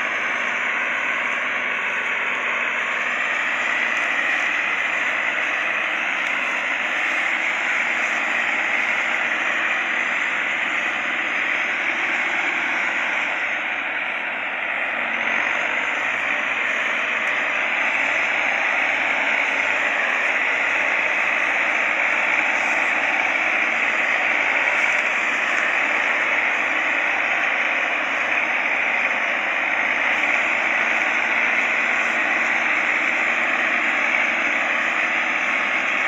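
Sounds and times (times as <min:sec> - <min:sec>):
tractor engines droning under load: 0:00.0 - 0:36.0.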